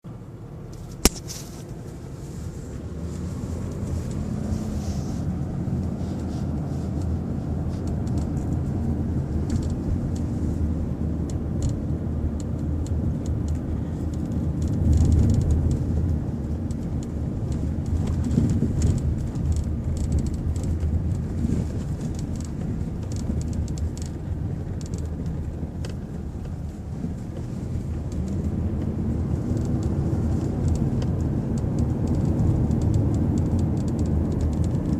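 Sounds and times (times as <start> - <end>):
road and engine rumble: 0.0 - 34.9
light clicks and rattles: 5.7 - 34.9.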